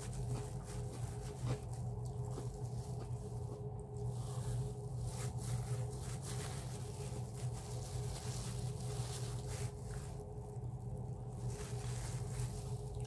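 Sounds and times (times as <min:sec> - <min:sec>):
faint rustles: 0:00.0 - 0:13.0
steady low hum: 0:00.0 - 0:13.0.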